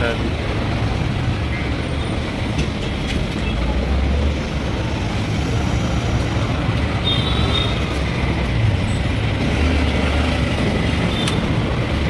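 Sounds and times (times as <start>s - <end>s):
motor vehicles rumbling: 0.0s - 12.0s.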